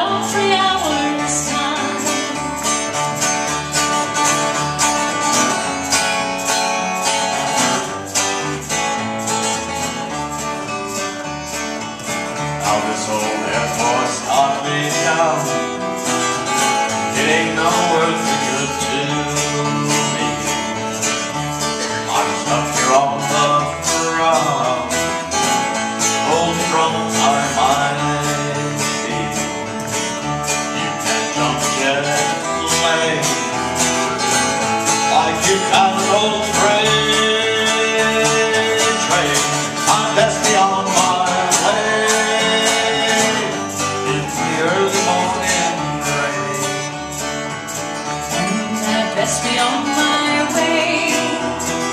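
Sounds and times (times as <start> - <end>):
acoustic guitar: 0.0 - 51.9
electric bass guitar: 0.0 - 51.9.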